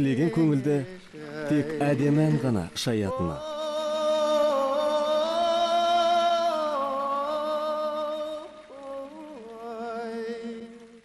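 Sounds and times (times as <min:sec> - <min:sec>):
young man singing: 0:00.0 - 0:11.0.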